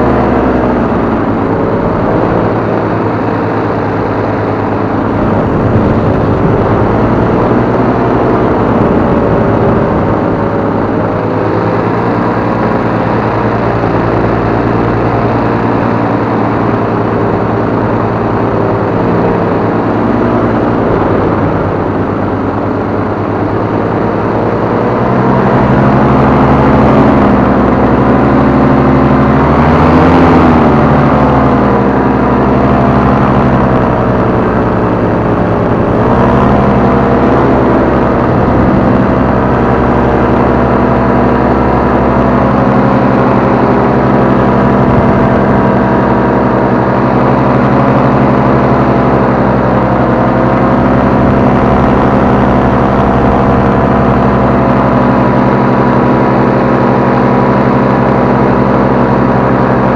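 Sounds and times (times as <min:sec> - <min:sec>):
paramotor engine and propeller: 0:00.0 - 0:59.9.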